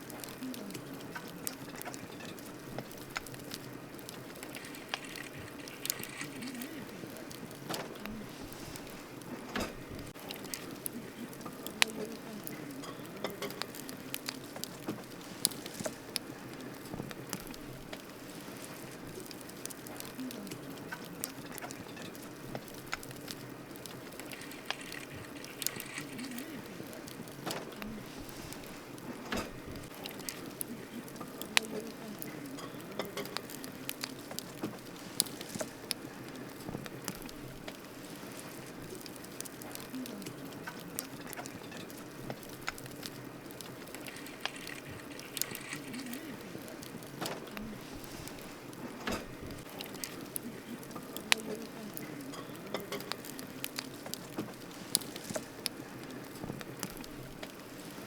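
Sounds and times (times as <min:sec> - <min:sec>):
campfire crackling and popping: 0:00.0 - 0:58.0
steady fire hiss: 0:00.0 - 0:58.0.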